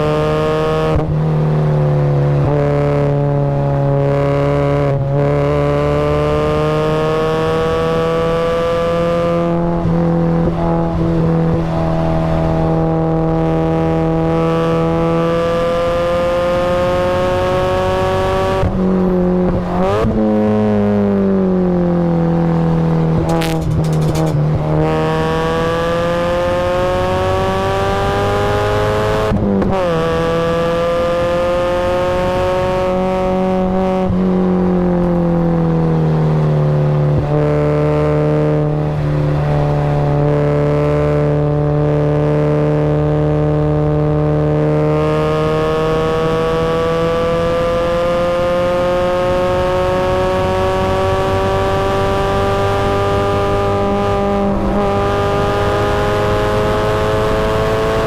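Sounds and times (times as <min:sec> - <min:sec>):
car engine revving: 0:00.0 - 0:58.0
engine throttle blips: 0:00.0 - 0:58.0.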